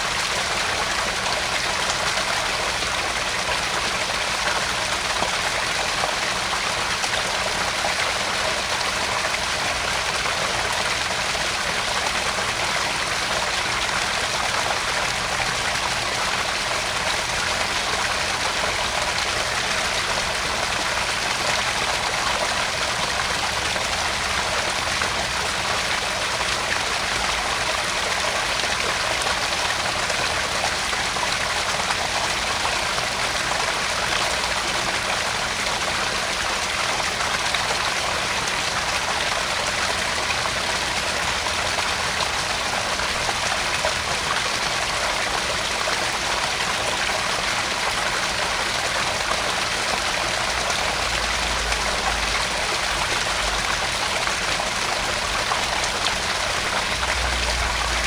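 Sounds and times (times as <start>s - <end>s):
water trickling into pond: 0.0s - 58.0s.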